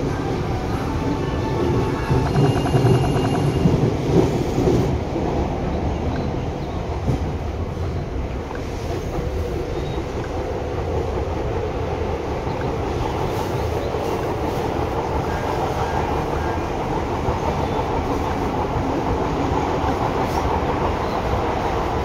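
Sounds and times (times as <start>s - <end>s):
train wheels rolling on track: 0.0s - 22.0s.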